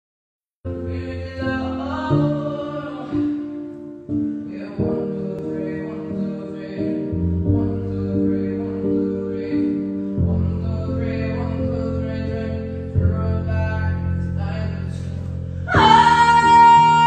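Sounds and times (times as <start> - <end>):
person singing: 0.7 - 17.0.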